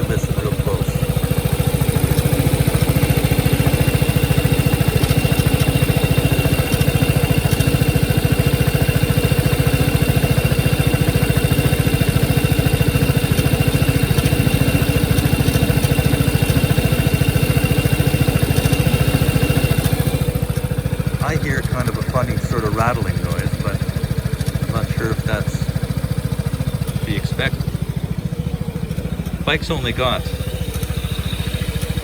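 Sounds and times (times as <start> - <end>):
scooter engine idling: 0.0 - 32.0.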